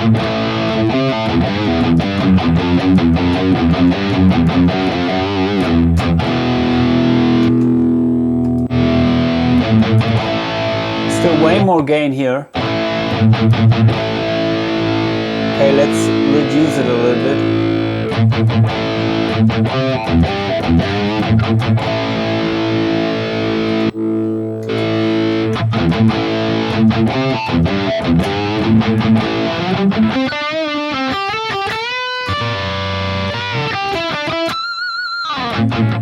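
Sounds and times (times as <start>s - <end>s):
distorted electric guitar: 0.0s - 11.8s, 12.5s - 36.0s.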